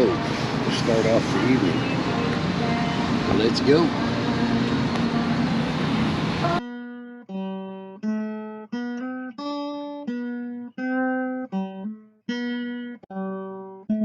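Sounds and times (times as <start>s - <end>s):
plucked string instrument notes: 0.0s - 14.0s.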